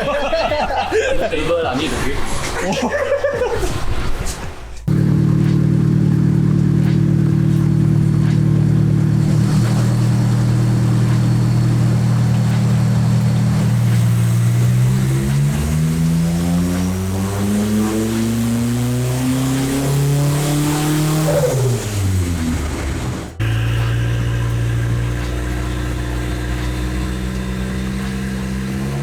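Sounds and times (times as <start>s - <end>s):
car engine revving under load: 4.9s - 29.0s.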